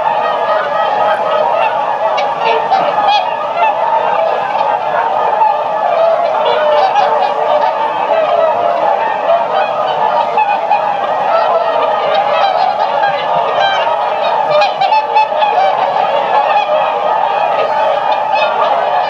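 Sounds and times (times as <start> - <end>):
swans honking: 0.0 - 19.0.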